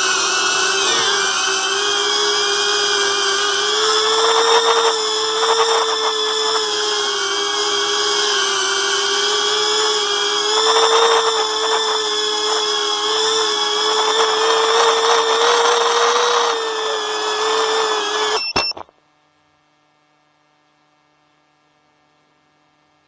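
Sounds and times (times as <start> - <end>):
quadcopter motors whining: 0.0 - 18.9.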